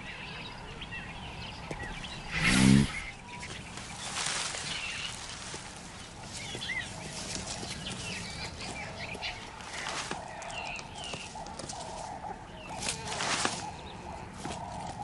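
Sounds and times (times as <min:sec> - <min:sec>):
birds chirping and calling: 0:00.0 - 0:15.0
leaves rustling: 0:01.6 - 0:15.0.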